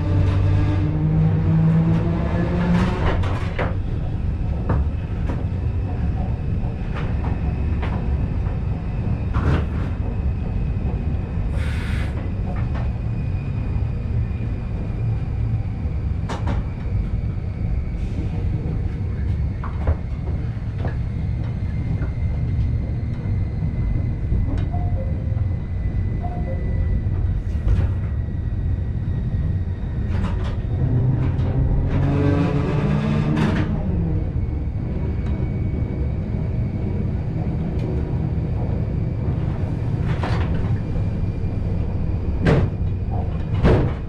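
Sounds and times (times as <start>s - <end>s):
electric train rumble: 0.0s - 44.0s.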